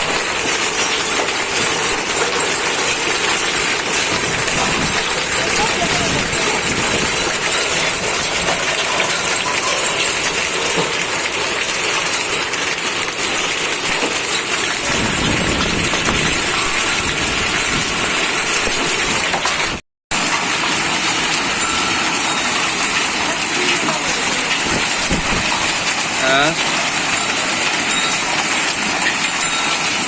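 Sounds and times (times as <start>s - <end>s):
hail and rain pelting down: 0.0s - 30.0s.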